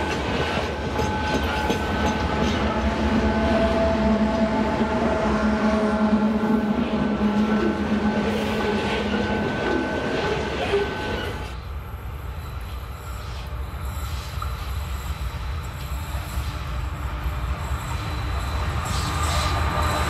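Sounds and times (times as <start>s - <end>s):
freight train rumbling past: 0.0s - 20.0s
train cars rattling: 0.0s - 20.0s.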